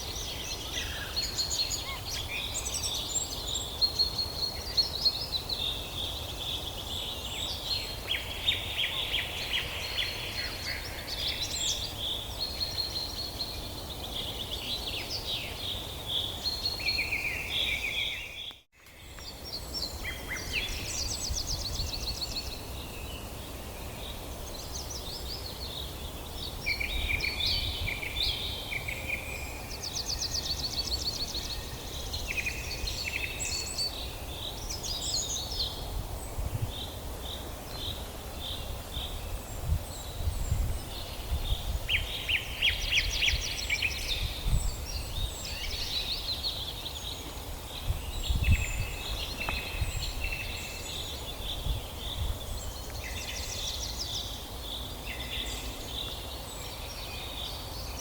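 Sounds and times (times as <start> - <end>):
bird chorus chirps and trills: 0.0 - 58.0.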